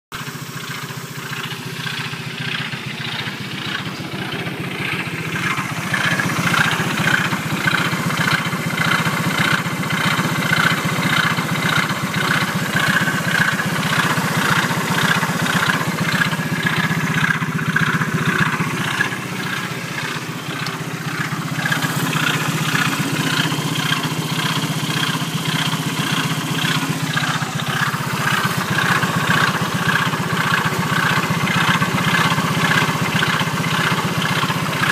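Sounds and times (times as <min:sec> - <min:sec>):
engine running abnormally: 0:00.1 - 0:34.9.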